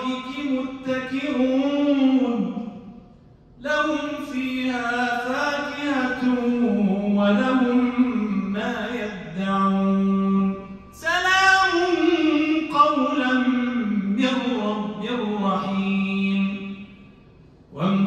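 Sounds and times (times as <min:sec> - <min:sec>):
man chanting recitation: 0:00.0 - 0:02.9, 0:03.6 - 0:16.9, 0:17.7 - 0:18.0.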